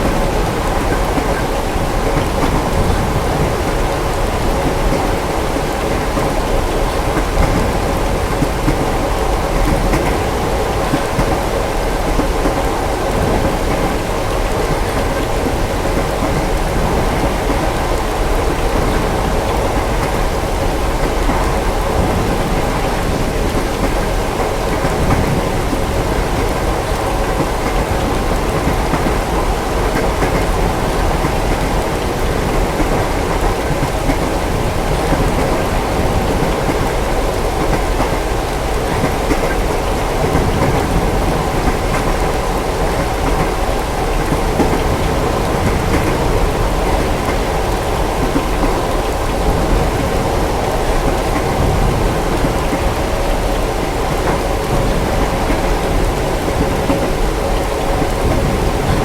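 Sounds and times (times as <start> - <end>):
moving train rumble: 0.0 - 59.0
rain on a train window: 0.0 - 59.0.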